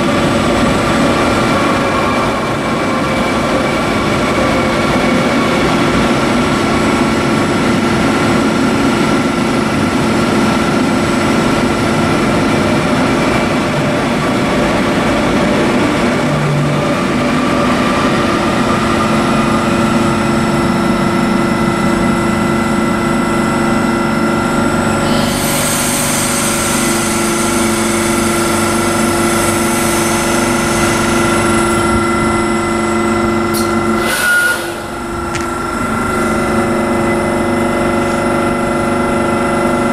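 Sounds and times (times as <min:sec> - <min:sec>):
electric train whine: 0:00.0 - 0:39.9
train rolling noise: 0:00.0 - 0:39.9.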